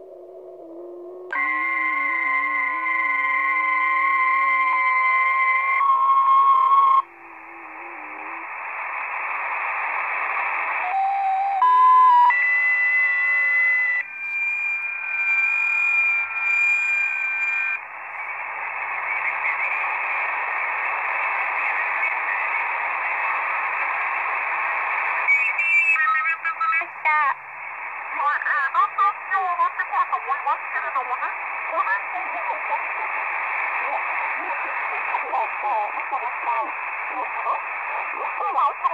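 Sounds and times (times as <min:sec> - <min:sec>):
warbling radio tones: 0:00.0 - 0:38.9
radio static hiss: 0:01.3 - 0:11.6, 0:12.3 - 0:38.9
radio whistles: 0:01.3 - 0:38.9.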